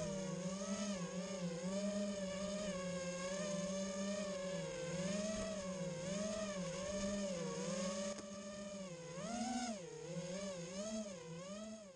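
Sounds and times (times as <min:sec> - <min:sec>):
drone propellers whining: 0:00.0 - 0:11.9.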